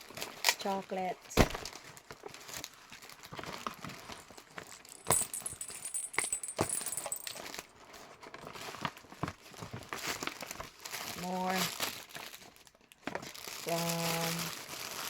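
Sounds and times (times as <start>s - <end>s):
paper and plastic rustling: 0.0s - 5.0s, 7.1s - 15.0s.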